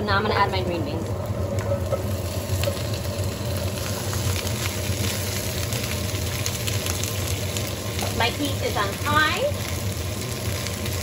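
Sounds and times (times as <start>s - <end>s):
green beans sizzling in oil: 0.0s - 11.0s
steady low hum: 0.0s - 11.0s.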